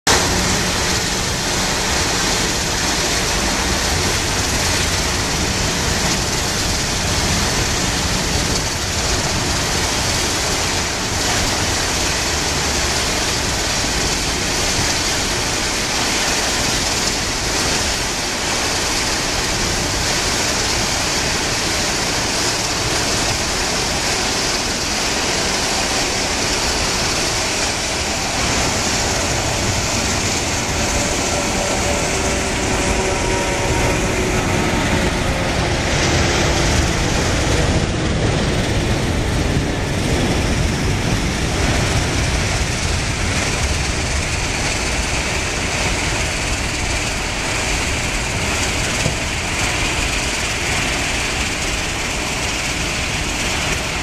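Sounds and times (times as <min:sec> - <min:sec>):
jet engines roaring at takeoff: 0:00.0 - 0:54.0
jet engine whining: 0:00.1 - 0:54.0.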